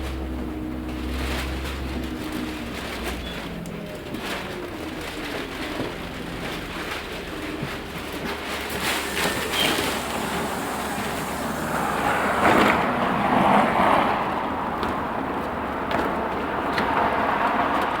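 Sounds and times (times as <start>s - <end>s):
vehicle and road noise: 0.0s - 18.0s.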